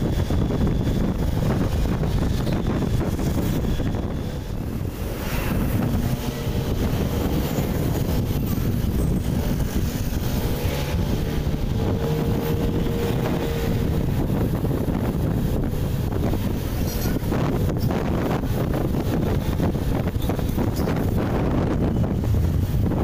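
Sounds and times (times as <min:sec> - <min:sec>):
road and engine rumble: 0:00.0 - 0:23.0
wind buffeting microphone: 0:00.0 - 0:23.0.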